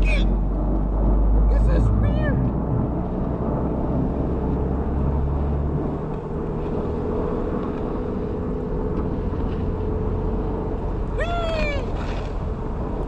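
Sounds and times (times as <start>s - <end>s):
car engine and road hum: 0.0s - 13.0s
deep low rumble: 0.0s - 13.0s.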